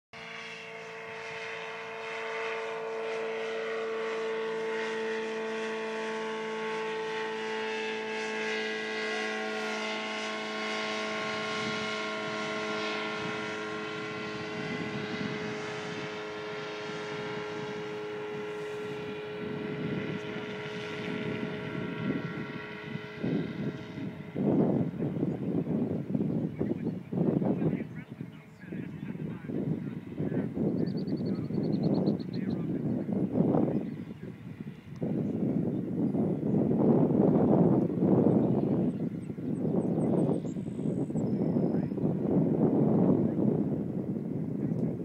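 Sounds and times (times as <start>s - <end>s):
small propeller engine droning: 0.2s - 45.0s
wind gusts on microphone: 0.2s - 45.0s.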